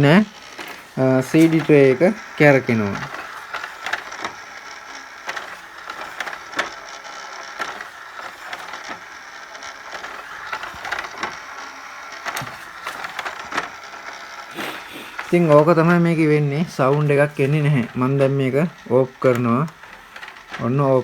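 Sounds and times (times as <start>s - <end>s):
cd tray mechanism clicking: 0.0s - 21.0s.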